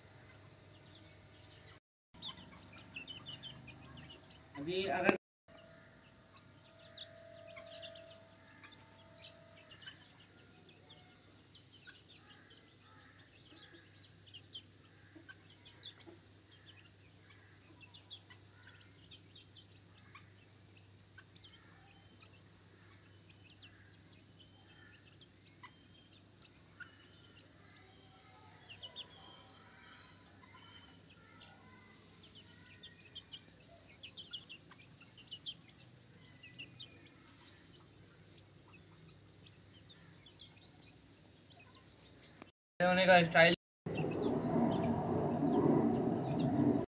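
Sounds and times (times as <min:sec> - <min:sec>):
chickens clucking and peeping: 0:00.0 - 0:43.2, 0:43.9 - 0:46.9.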